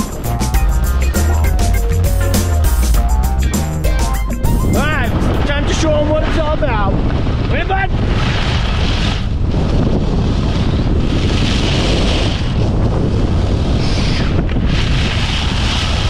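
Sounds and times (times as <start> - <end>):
wind buffeting microphone: 3.1 - 16.0.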